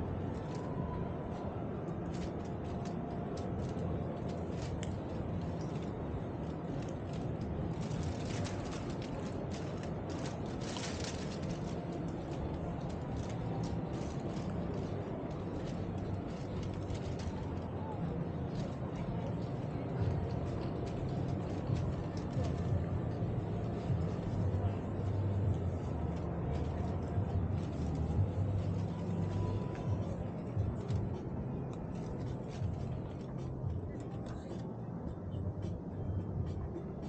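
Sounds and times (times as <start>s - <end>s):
exhibition hall din: 0.0s - 37.0s.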